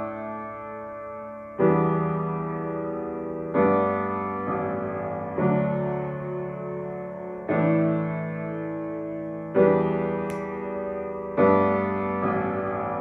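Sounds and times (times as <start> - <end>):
piano chords ringing: 0.0 - 13.0.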